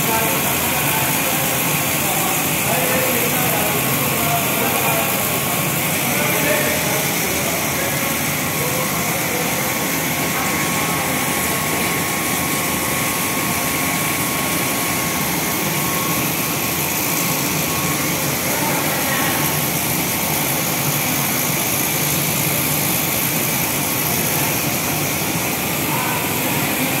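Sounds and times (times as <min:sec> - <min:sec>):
machinery running: 0:00.0 - 0:27.0.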